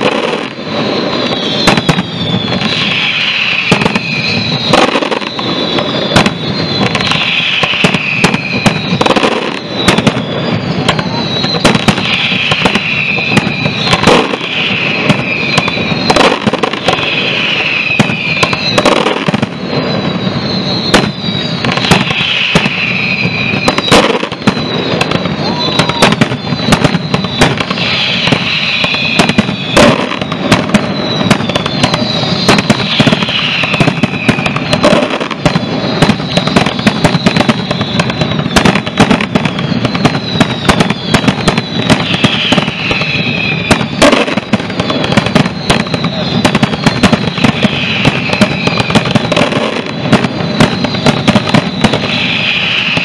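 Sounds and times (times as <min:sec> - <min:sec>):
firework bursts and bangs: 0:00.0 - 0:53.0
firework crackling: 0:00.0 - 0:53.0
high falling whistles: 0:00.0 - 0:53.0.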